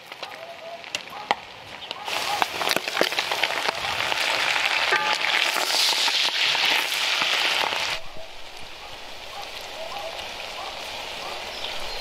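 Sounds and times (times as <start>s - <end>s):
food sizzling in hot oil: 2.1s - 12.0s.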